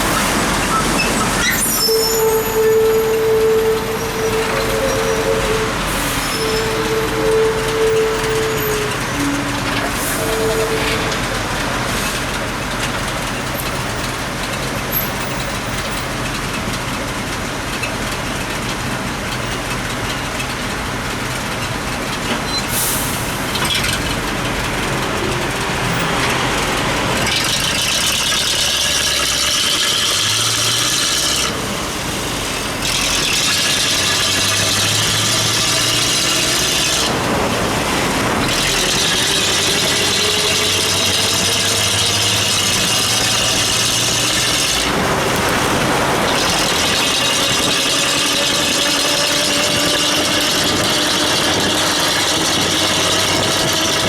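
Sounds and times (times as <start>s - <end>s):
tyres hissing on wet road: 0.0s - 54.0s
vehicle engines running: 0.0s - 54.0s.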